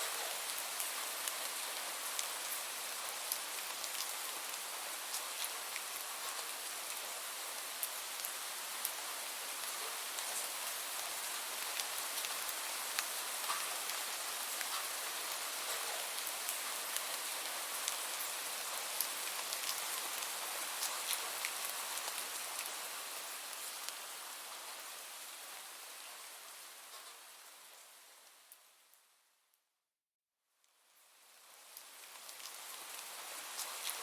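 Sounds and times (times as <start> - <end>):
raindrops ticking on a surface: 0.0 - 24.8, 26.8 - 27.4, 30.6 - 34.0
steady rain: 0.0 - 29.2, 30.6 - 34.0.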